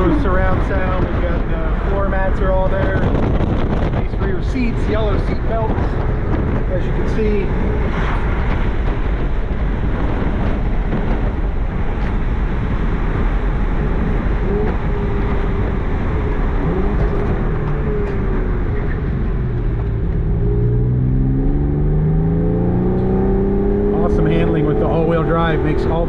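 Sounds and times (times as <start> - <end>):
car engine accelerating: 0.0 - 26.0
wind and road noise: 0.0 - 26.0.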